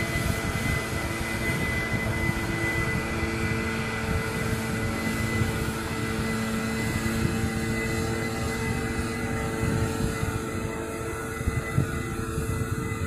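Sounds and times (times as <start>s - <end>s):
leaf blower running: 0.0s - 13.0s.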